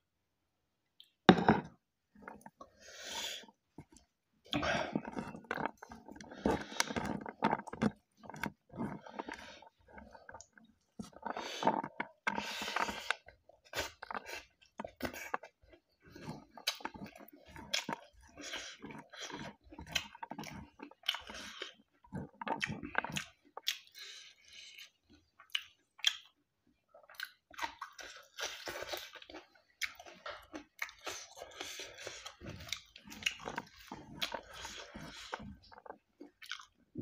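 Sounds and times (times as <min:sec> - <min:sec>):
person chewing food: 0:01.0 - 0:37.0.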